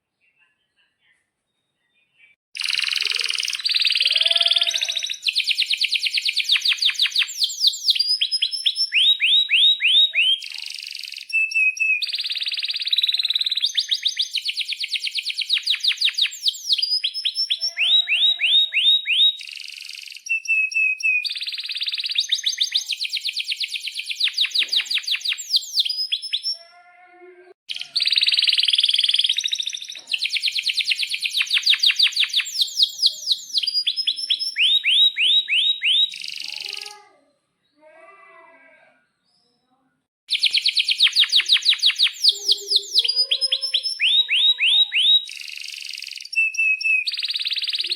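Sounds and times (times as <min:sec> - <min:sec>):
canary singing: 0:02.6 - 0:37.1, 0:40.3 - 0:47.9.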